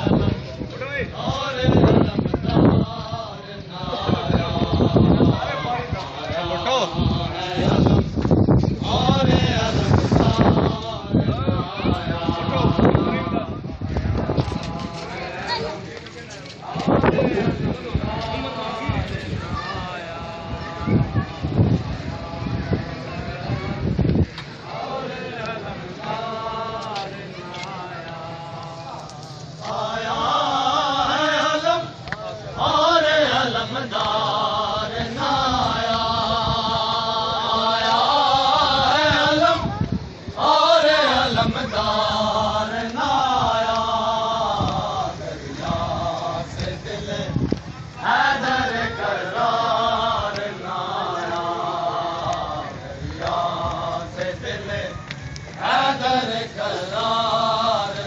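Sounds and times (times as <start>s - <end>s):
crowd noise: 0.0s - 58.0s
men chanting a lament: 0.0s - 58.0s.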